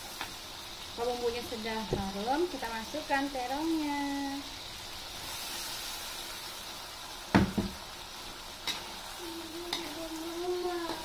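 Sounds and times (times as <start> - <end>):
eggplant sizzling in a wok: 0.0 - 11.0.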